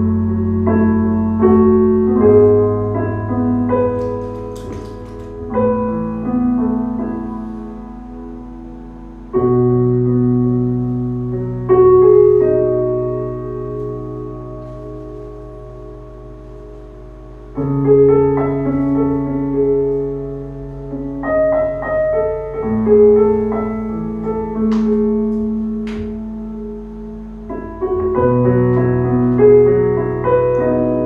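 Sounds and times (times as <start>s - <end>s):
slow piano chords: 0.0s - 31.0s.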